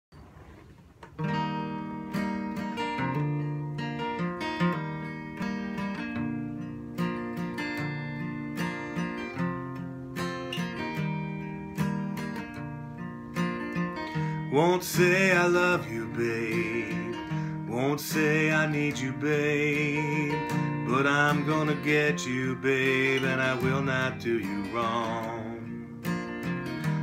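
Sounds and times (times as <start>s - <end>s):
acoustic guitar picking and strumming: 0.2s - 27.0s.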